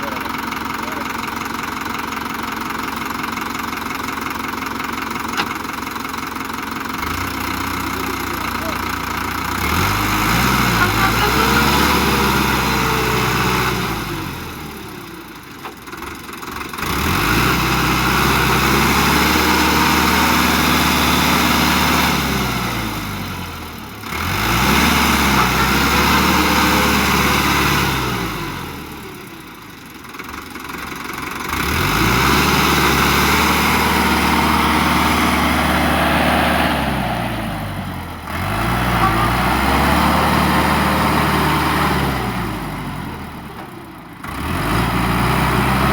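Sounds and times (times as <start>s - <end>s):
tractor engine revving: 0.0s - 45.9s.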